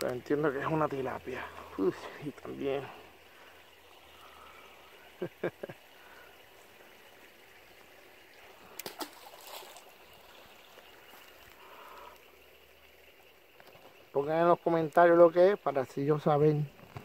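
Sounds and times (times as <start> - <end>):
creek water trickling: 0.0 - 17.0.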